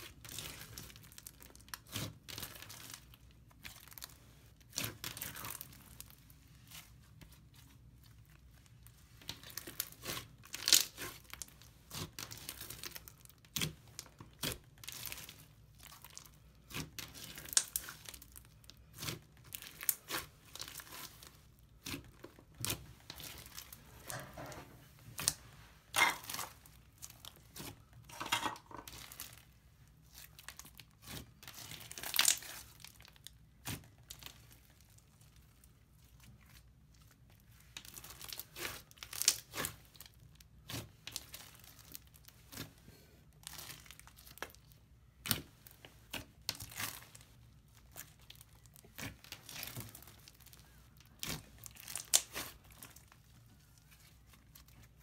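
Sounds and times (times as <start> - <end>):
slime crackling and popping: 0.0 - 23.9, 28.7 - 55.0.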